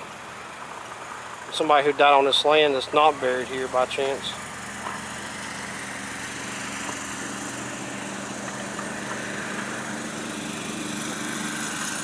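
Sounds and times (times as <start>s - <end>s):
engine-like drone with hiss: 0.0s - 12.0s.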